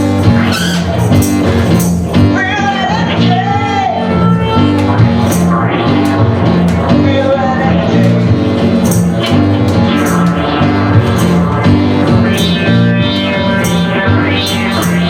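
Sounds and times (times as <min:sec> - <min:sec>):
live band music: 0:00.0 - 0:15.0
walking bass line: 0:00.0 - 0:15.0.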